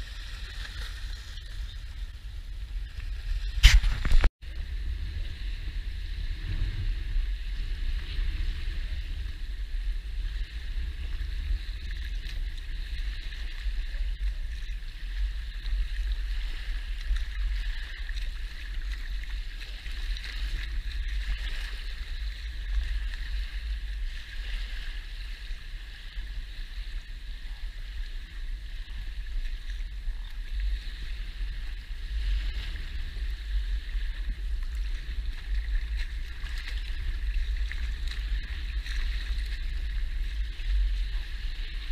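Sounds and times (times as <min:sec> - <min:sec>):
water lapping over sand: 0:00.0 - 0:41.9.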